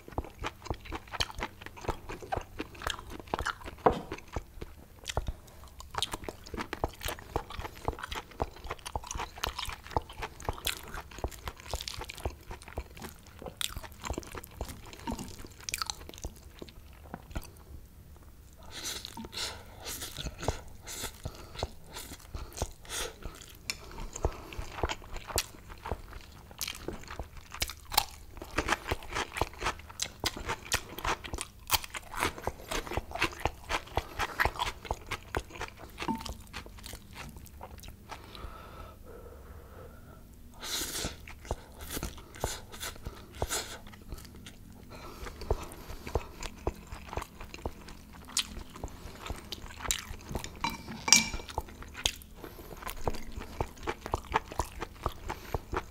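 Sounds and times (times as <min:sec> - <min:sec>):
wet crunchy chewing: 0:00.0 - 0:17.6, 0:19.9 - 0:38.4, 0:41.1 - 0:55.9.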